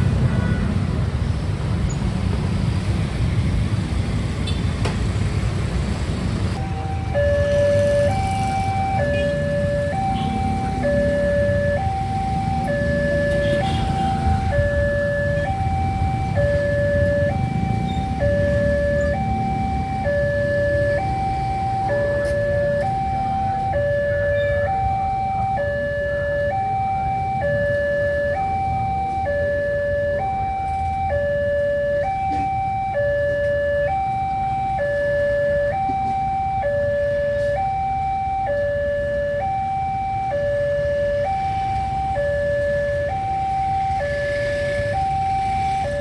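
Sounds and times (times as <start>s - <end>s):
two-tone crossing alarm: 6.6s - 46.0s.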